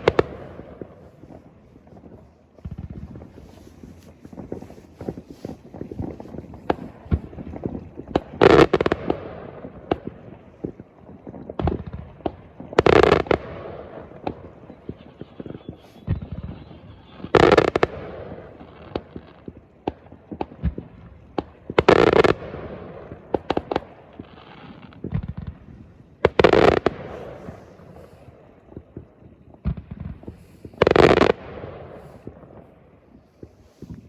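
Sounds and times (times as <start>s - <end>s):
loud firework bursts with echo: 0.0s - 10.8s, 11.4s - 34.0s
fireworks bangs and pops: 0.0s - 34.0s.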